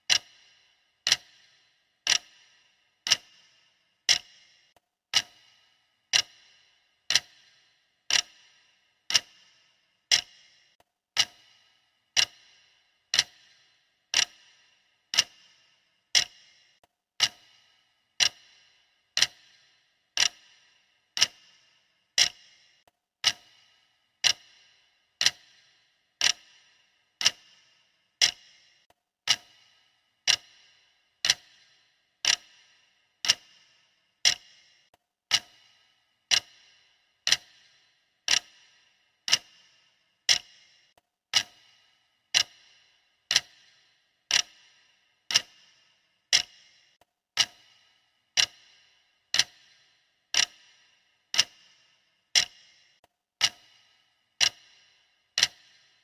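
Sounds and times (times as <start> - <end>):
clock ticking: 0.0 - 56.0.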